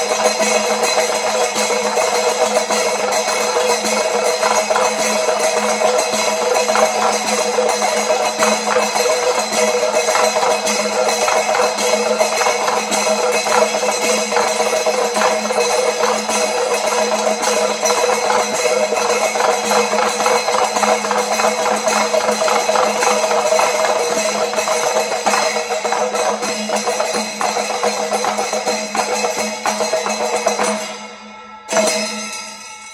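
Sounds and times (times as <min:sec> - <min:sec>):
hand drums playing fast rhythm: 0:00.0 - 0:30.9
brass cymbals clashing: 0:00.0 - 0:32.9.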